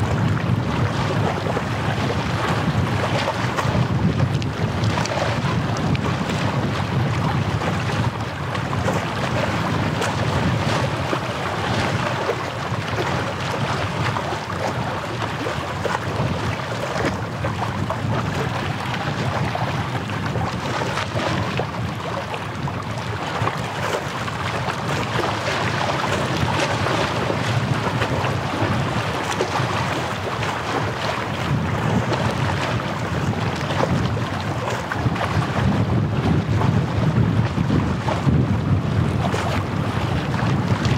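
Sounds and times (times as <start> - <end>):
small sea waves washing: 0.0 - 40.9
wind buffeting microphone: 0.0 - 40.9.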